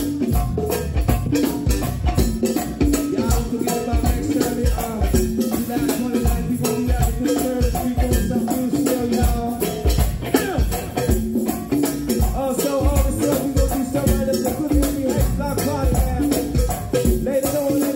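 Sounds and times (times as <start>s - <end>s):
electric guitar: 0.0s - 17.9s
shaker percussion: 0.0s - 17.9s.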